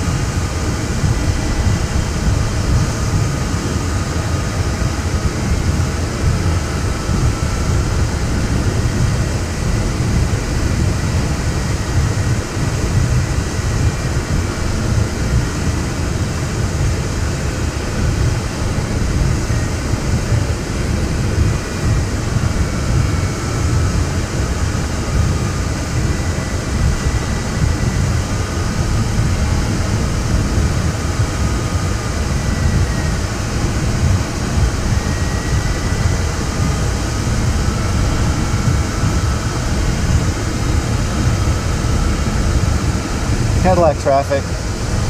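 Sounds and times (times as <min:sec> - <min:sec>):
cockpit wind noise rumble: 0:00.0 - 0:45.0.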